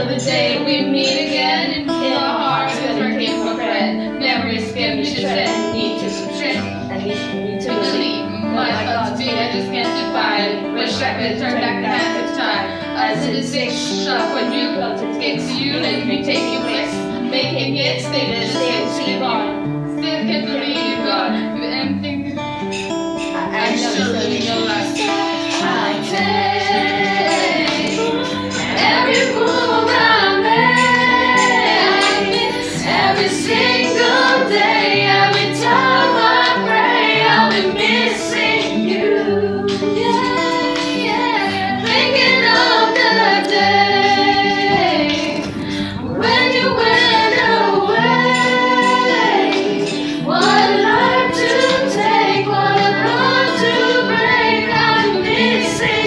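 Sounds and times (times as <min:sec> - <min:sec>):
group of people singing: 0:00.0 - 0:21.9, 0:22.7 - 0:56.0
acoustic guitar accompaniment: 0:00.0 - 0:56.0.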